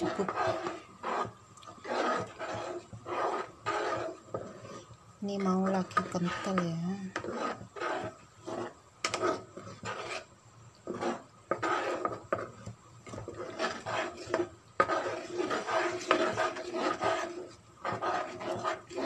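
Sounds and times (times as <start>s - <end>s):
spatula scraping a pan: 0.0s - 19.0s.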